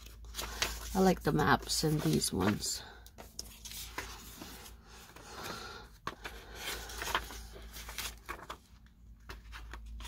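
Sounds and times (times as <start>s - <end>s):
paper sheets rustling: 0.0s - 10.0s.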